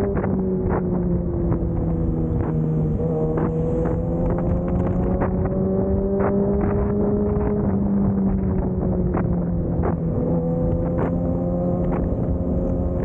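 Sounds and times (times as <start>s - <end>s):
motorcycle engine cruising: 0.0s - 13.0s
wind noise on microphone: 0.0s - 13.0s.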